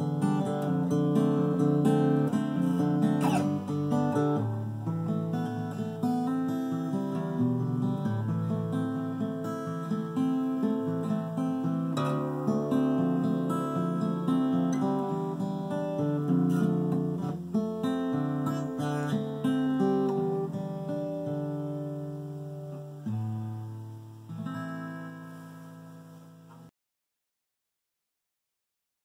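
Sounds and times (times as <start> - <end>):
fingerpicked acoustic guitar: 0.0 - 26.7.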